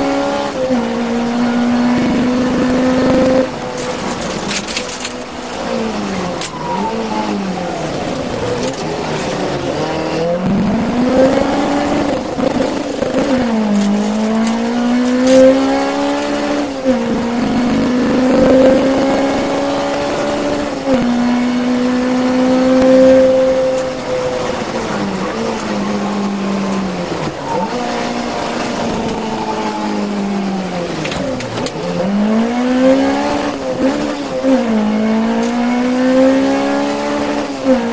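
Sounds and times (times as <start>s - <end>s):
rally car engine revving: 0.0s - 37.9s.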